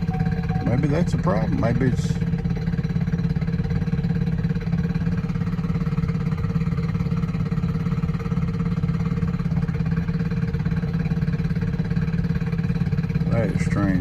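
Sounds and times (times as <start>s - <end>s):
pulsing mechanical drone: 0.0s - 14.0s.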